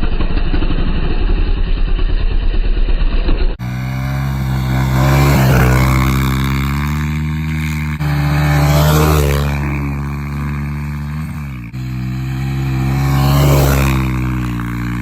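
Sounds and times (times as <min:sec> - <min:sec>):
small motorbike engine: 0:00.0 - 0:15.0.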